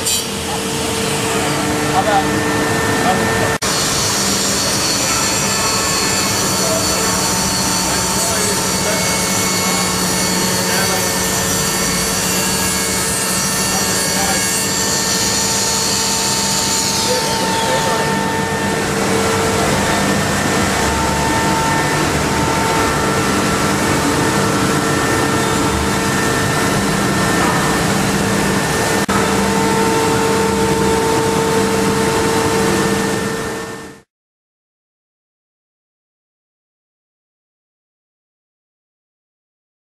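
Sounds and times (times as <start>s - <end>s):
high-pitched spindle whine: 0.0s - 34.1s
machine hum and rushing: 0.0s - 34.1s.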